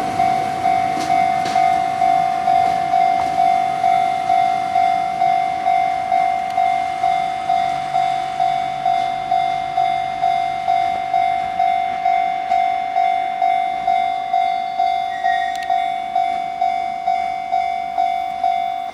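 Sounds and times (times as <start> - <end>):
level-crossing electronic chime: 0.0 - 18.9.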